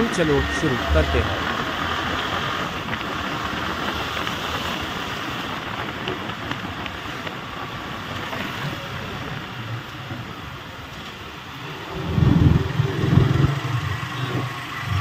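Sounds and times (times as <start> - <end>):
road noise: 0.0 - 15.0
wind rush on microphone: 0.0 - 15.0.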